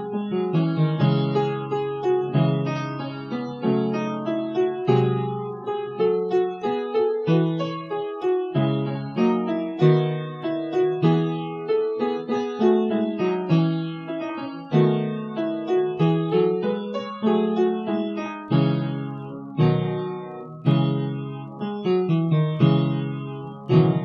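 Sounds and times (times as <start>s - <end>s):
piano melody over chords: 0.0s - 24.0s.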